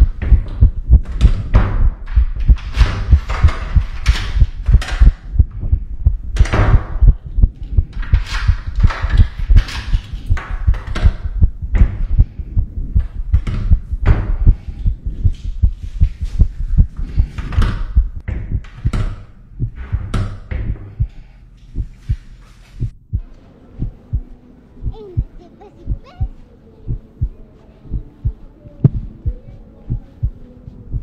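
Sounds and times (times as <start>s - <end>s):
fast low heartbeat-like thumps: 0.0s - 21.2s, 21.8s - 31.0s.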